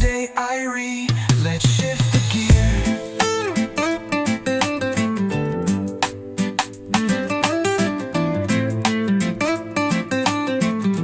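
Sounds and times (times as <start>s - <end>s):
reggae instrumental music: 0.0s - 11.0s.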